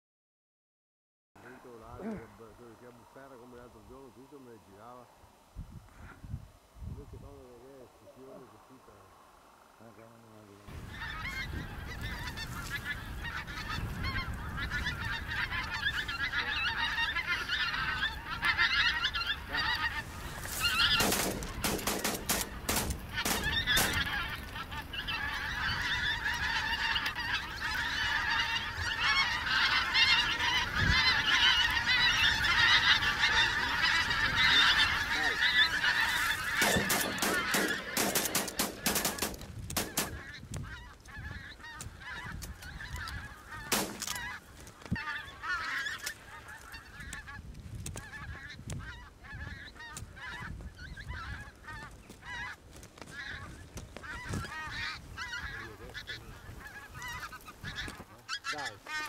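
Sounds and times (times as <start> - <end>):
geese honking: 1.4 - 5.2, 7.1 - 59.0.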